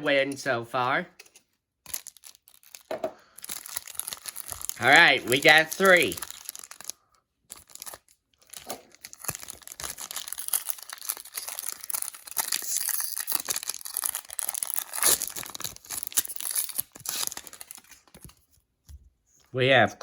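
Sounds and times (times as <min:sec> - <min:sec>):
foil wrapper tearing and crinkling: 0:01.8 - 0:18.4.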